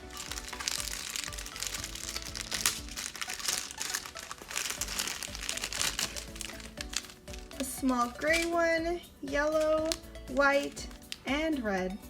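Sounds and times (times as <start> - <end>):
plastic pouches crinkling: 0.0 - 8.8, 9.4 - 11.3
background music: 0.0 - 12.0.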